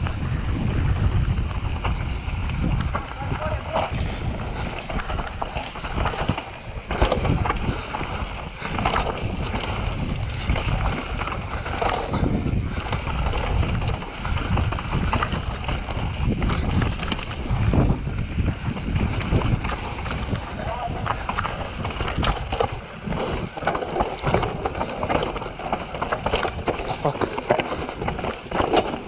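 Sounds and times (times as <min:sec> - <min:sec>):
bike frame and chain clattering: 0:00.0 - 0:29.0
bike tyres on dirt trail: 0:00.0 - 0:29.0
wind on microphone: 0:00.0 - 0:29.0.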